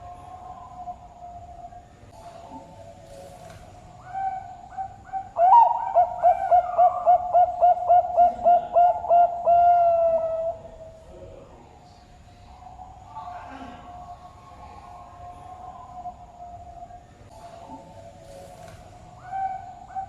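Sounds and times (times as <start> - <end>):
dove cooing: 0.0 - 11.0, 12.5 - 20.0.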